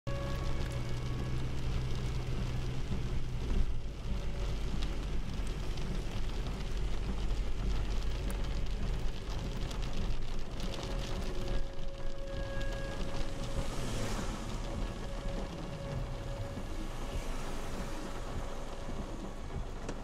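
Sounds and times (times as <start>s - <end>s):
rain hitting a car: 0.1s - 20.0s
road and engine rumble: 0.1s - 20.0s.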